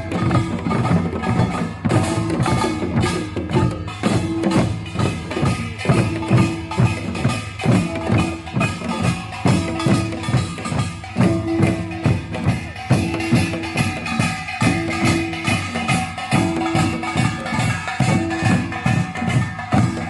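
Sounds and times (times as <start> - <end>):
drums beating: 0.0 - 20.0
hand gongs clanging: 0.0 - 20.0.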